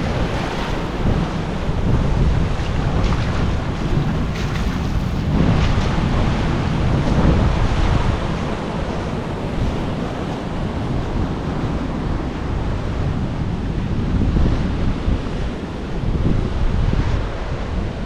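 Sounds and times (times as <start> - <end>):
ocean surf washing ashore: 0.0 - 18.0
wind buffeting microphone: 0.0 - 18.0.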